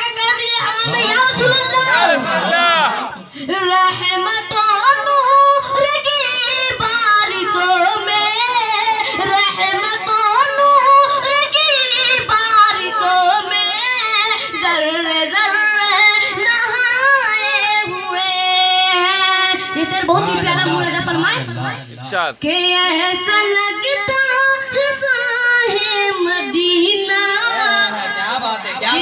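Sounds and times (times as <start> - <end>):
boy singing into a microphone: 0.0 - 2.2, 3.3 - 21.8, 22.4 - 29.0.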